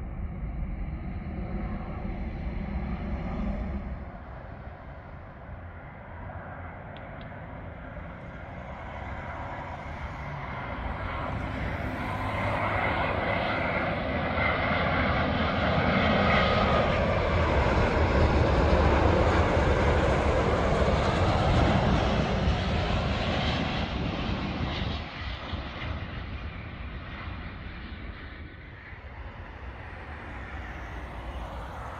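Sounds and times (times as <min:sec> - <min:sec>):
jet airliner rumble and whine: 0:00.0 - 0:31.9.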